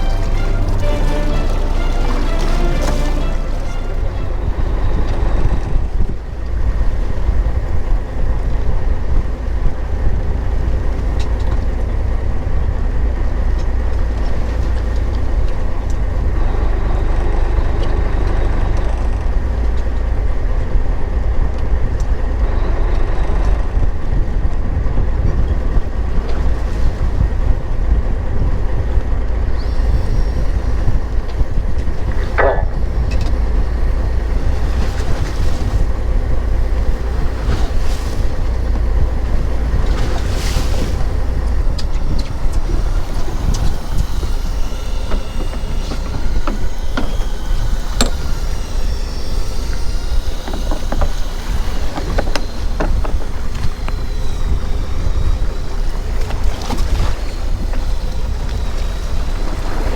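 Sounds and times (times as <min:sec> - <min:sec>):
boat engine rumble: 0:00.0 - 0:59.9
water noise: 0:00.0 - 0:59.9
wind: 0:00.0 - 0:59.9.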